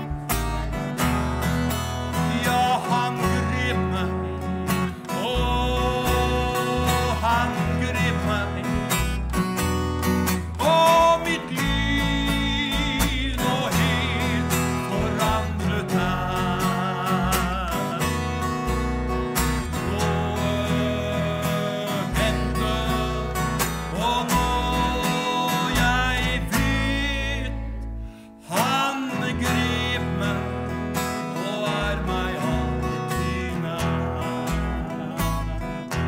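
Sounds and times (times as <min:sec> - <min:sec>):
gospel band music: 0:00.0 - 0:36.0.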